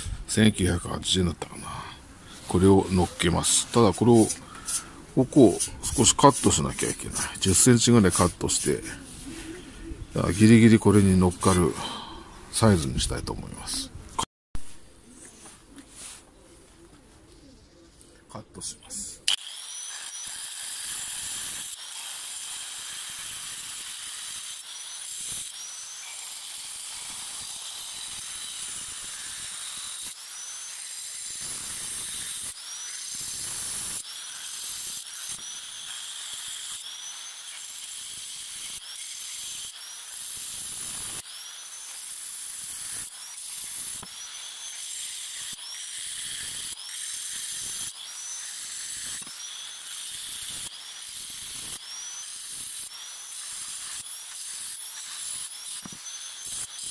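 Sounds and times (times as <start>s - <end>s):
angle grinder cutting ceramic: 0.0s - 13.8s, 19.2s - 56.9s.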